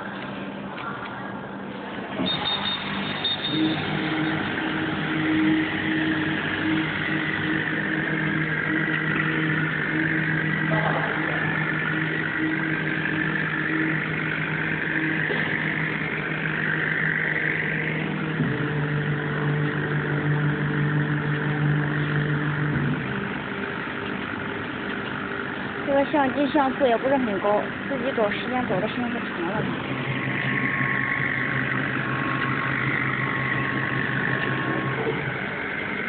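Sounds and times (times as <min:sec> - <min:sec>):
high wavering machine whine: 0:00.0 - 0:36.0
laser cutting machine hum: 0:00.0 - 0:36.0.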